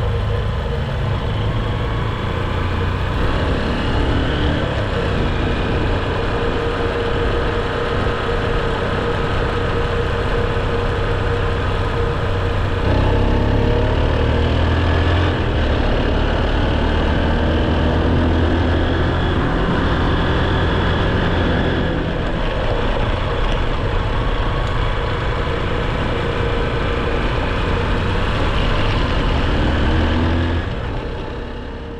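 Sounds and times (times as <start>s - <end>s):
engine humming: 0.0s - 31.9s.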